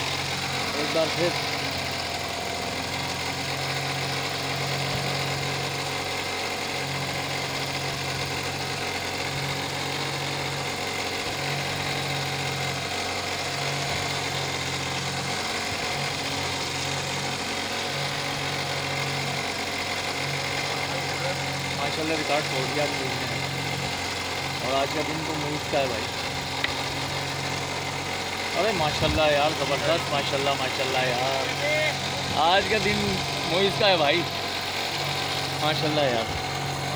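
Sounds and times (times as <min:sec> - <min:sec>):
boat engine idling: 0:00.0 - 0:36.9.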